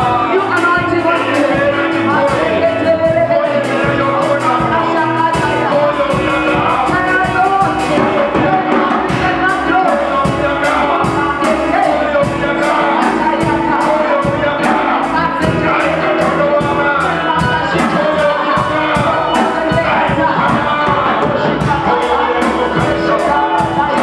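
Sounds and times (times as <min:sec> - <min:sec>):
voices singing: 0:00.0 - 0:24.0
worship band playing: 0:00.0 - 0:24.0.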